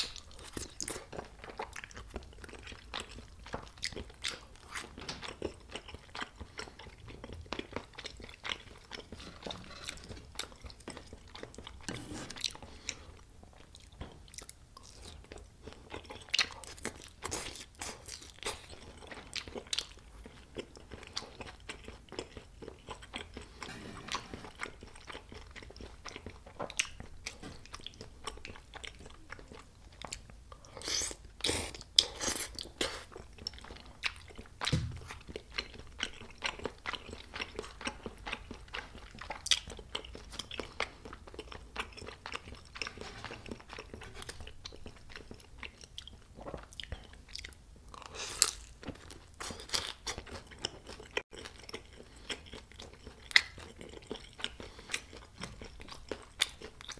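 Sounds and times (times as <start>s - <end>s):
chewing with crunches: 0.0s - 56.9s.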